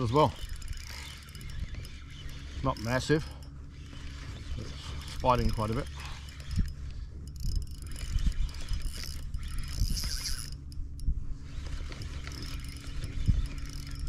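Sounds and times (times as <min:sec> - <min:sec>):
fishing reel whirring: 0:00.0 - 0:14.0.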